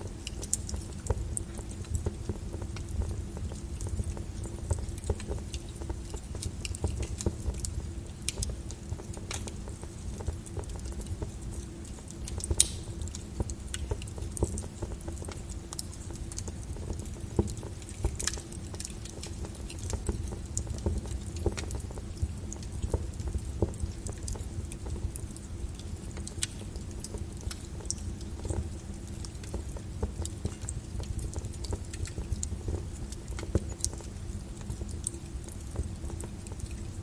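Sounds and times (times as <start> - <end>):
rain pattering: 0.0 - 37.0
wood fire crackling and popping: 0.0 - 37.0.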